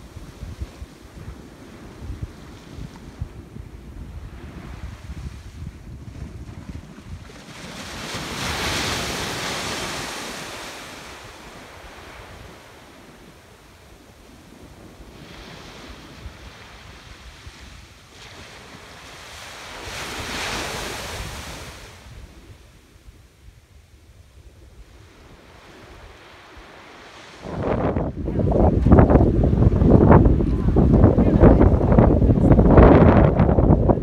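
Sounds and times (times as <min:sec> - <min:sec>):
waves breaking on beach: 0:00.0 - 0:23.0, 0:24.8 - 0:34.0
wind rumble on microphone: 0:00.0 - 0:34.0.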